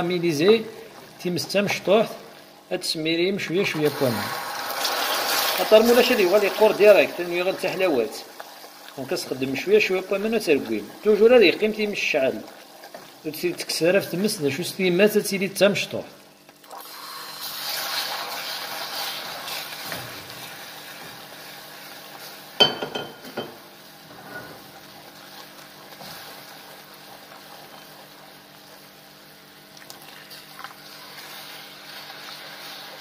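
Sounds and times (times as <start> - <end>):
caramel sizzling in a saucepan: 0.0 - 16.0, 16.6 - 33.0.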